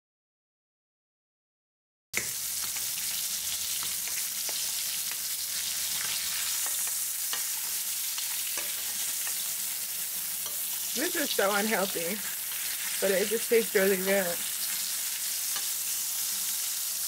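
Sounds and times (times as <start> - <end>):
steak sizzling in a frying pan: 2.2 - 17.0.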